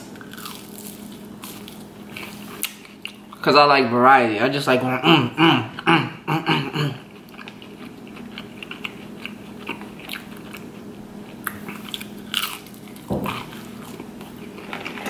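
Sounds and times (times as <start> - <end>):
person chewing crunchy food: 0.1 - 3.4, 5.6 - 15.0.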